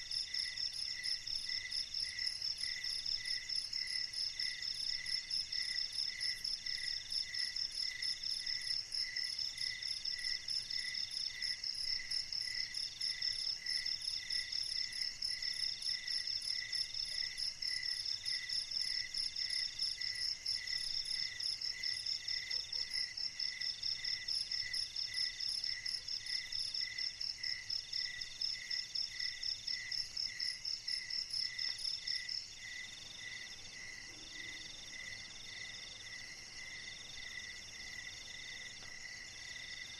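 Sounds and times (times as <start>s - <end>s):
insect lower chirp: 0.0s - 39.9s.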